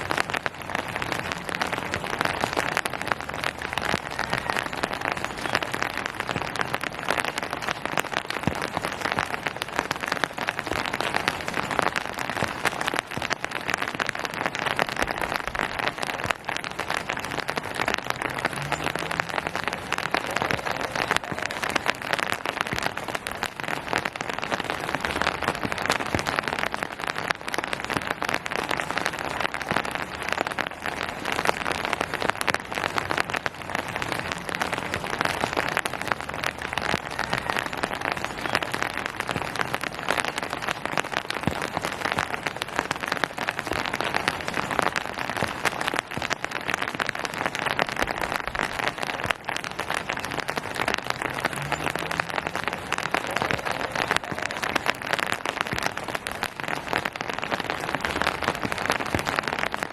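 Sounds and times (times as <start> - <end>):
rain on hard surface: 0.0 - 59.9.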